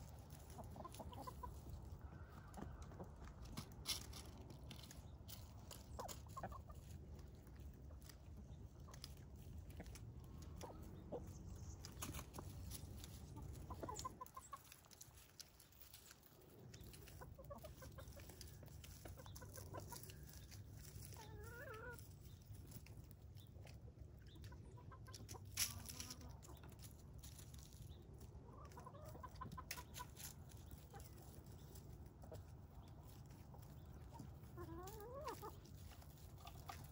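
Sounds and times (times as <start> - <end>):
chickens clucking softly: 0.0 - 36.9.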